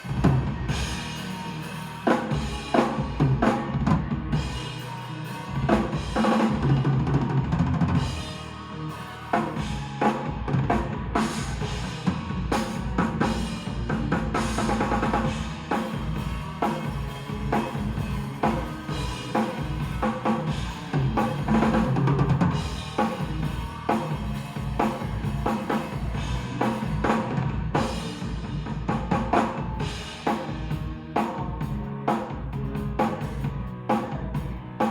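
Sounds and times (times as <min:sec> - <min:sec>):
backing track with bass line: 0:00.0 - 0:34.9
drum kit beat: 0:00.0 - 0:34.9.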